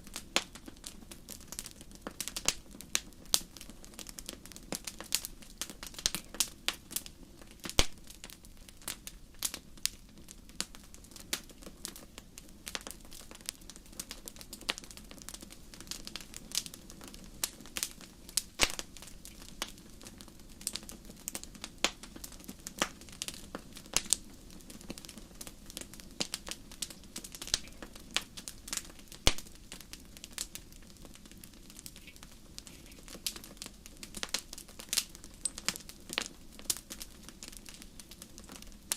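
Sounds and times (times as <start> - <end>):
low rush of flames: 0.0 - 38.9
wood fire crackling and popping: 0.0 - 38.9.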